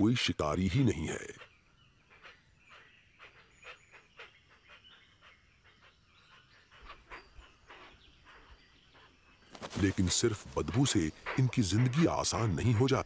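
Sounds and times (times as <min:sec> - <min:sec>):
short breathy bird calls: 0:01.1 - 0:13.0.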